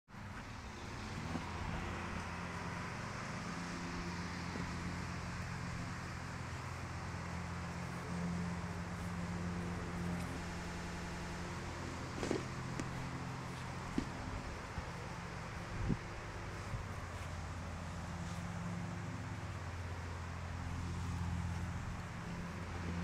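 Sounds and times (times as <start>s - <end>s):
low motor hum: 0.1s - 23.0s
constant rushing noise: 0.2s - 23.0s.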